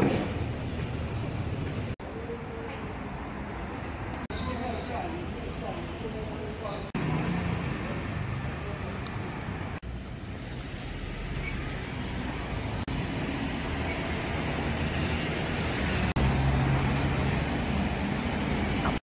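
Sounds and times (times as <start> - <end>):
passing car traffic: 0.0 - 19.0.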